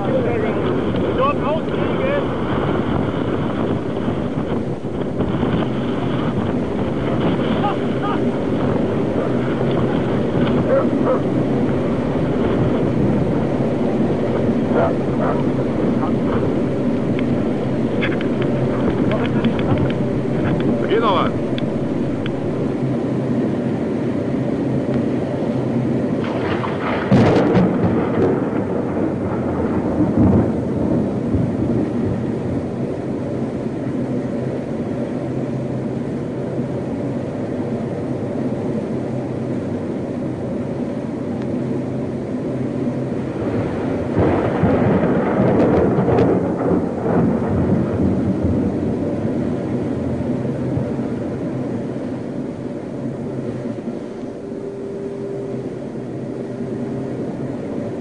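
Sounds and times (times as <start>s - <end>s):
steady low hum: 0.0s - 58.0s
wind buffeting the microphone: 0.0s - 58.0s.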